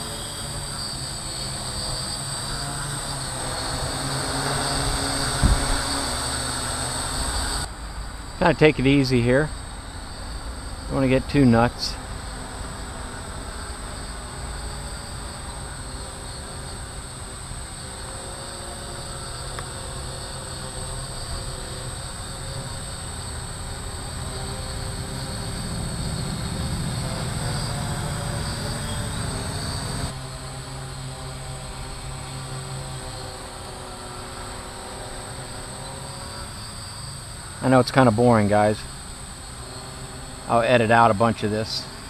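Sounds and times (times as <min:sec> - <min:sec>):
drone motors whirring: 0:00.0 - 0:07.7, 0:09.0 - 0:42.0.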